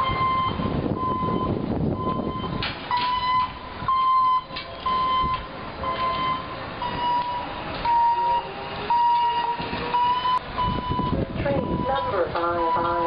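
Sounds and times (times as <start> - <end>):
electronic warning beeps: 0.0 - 13.0.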